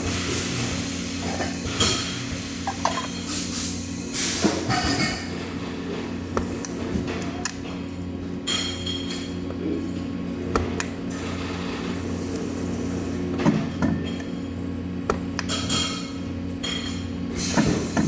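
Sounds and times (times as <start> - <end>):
machine hum: 0.0 - 17.4.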